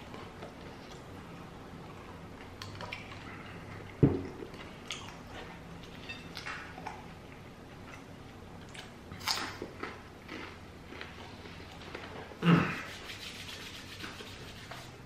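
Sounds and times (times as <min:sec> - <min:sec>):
chewing crispy food: 0:00.0 - 0:12.4.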